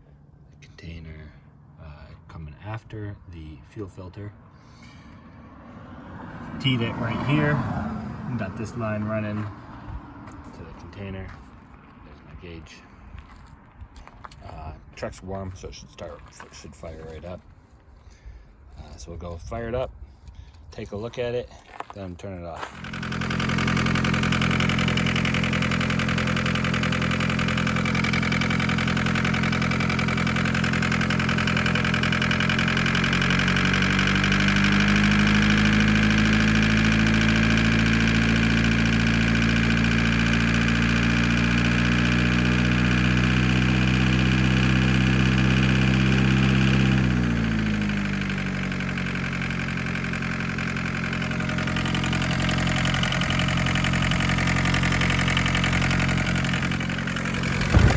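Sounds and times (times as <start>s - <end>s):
diesel engine running: 0.0s - 19.1s, 21.7s - 57.9s.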